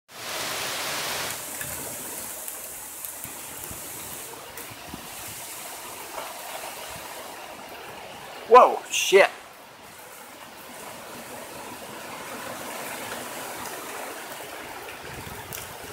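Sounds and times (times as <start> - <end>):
wind rushing through trees: 0.1 - 15.9.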